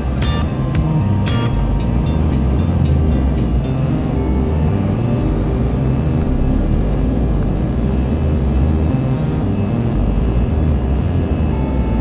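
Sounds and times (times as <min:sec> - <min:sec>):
jet engine drone in cabin: 0:00.0 - 0:12.0.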